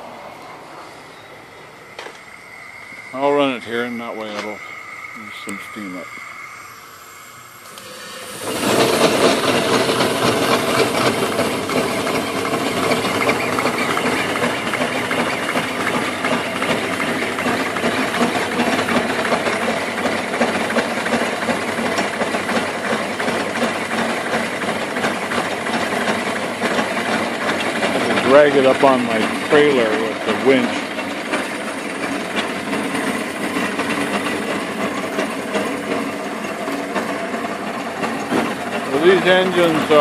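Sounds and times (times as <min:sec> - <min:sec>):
steam engine chuffing: 0:00.0 - 0:40.0
steam hissing: 0:00.0 - 0:40.0.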